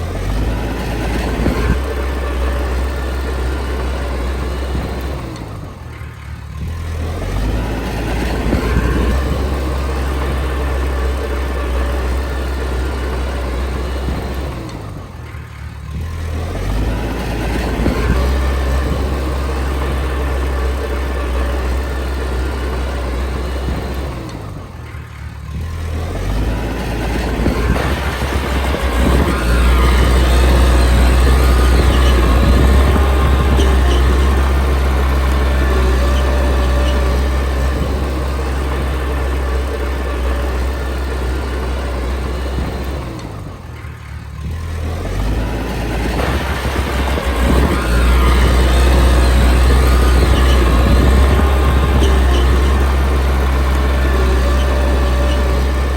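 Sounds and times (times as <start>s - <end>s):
bulldozer diesel engine under load: 0.0s - 55.9s.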